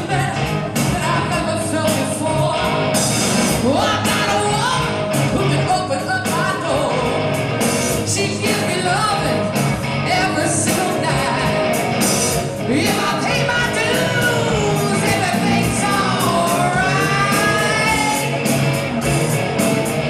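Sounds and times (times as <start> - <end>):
woman singing lead: 0.0 - 18.8
live rock band playing: 0.0 - 20.0.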